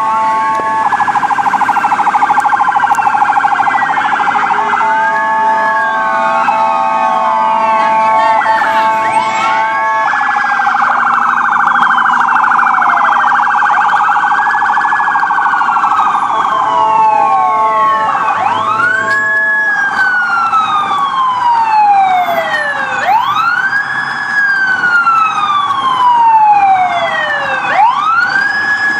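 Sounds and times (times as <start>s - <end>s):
wailing emergency sirens: 0.0s - 28.9s
rapidly pulsing siren tone: 0.8s - 24.0s.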